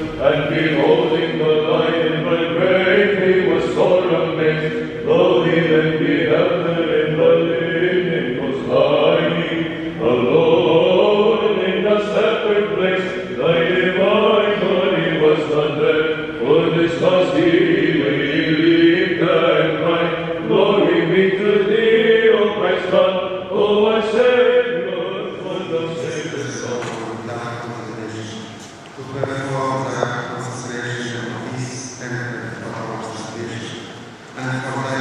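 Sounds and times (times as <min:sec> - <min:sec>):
voices chanting a melody: 0:00.0 - 0:28.4.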